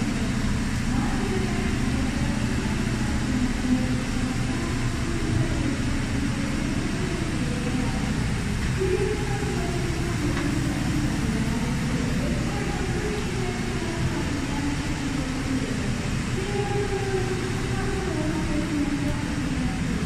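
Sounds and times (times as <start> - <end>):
faint voices: 0.0 - 20.0
machinery rumbling: 0.0 - 20.0.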